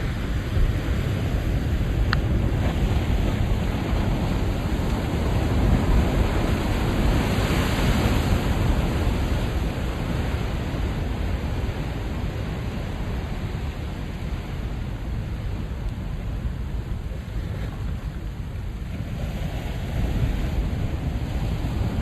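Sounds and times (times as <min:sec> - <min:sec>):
ocean waves breaking: 0:00.0 - 0:22.0.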